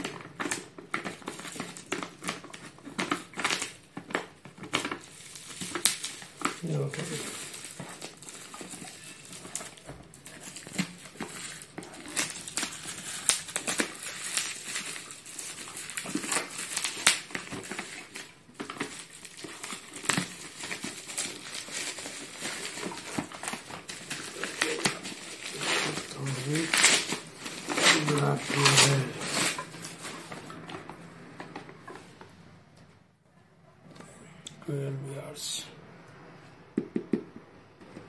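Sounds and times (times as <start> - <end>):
scissors cutting wrapping: 0.0 - 30.5
bubble wrap and tape crinkling: 0.0 - 31.0.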